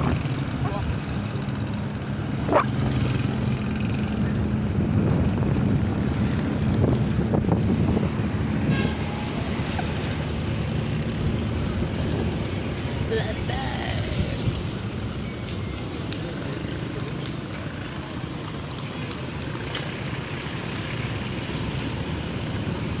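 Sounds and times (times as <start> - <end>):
street traffic noise: 0.0 - 23.0
vehicle engine running: 0.0 - 23.0.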